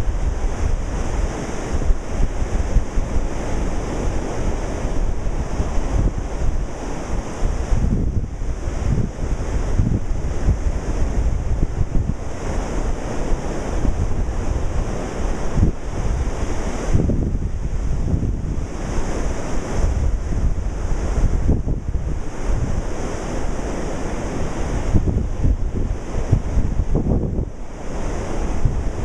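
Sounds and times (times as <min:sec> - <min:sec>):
ocean surf breaking: 0:00.0 - 0:29.0
wind buffeting microphone: 0:00.0 - 0:29.0.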